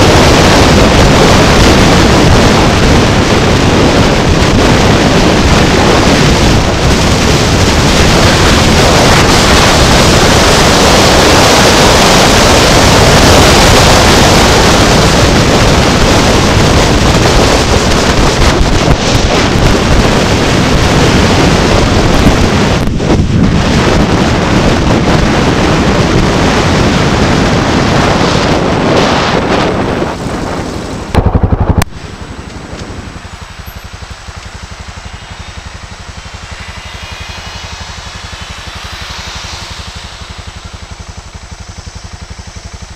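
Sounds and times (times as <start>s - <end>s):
loud low burst: 0.0s - 42.9s
wind buffeting microphone: 0.0s - 42.9s.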